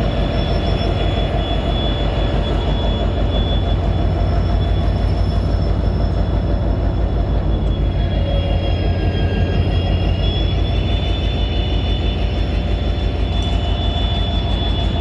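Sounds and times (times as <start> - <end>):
high steady whine: 0.0 - 15.0
locomotive engine throbbing: 0.0 - 15.0.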